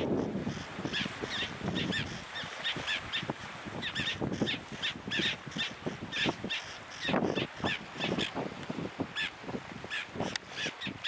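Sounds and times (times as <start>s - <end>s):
seabirds calling: 0.0s - 11.0s.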